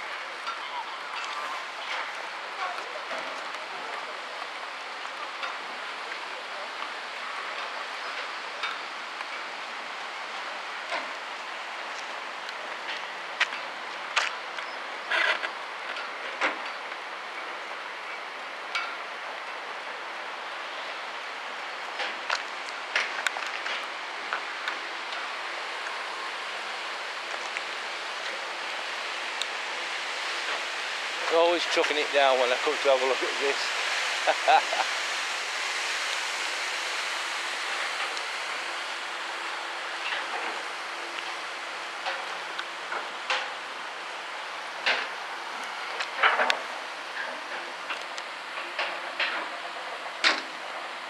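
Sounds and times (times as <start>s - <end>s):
heavy rain hissing: 0.0s - 51.0s.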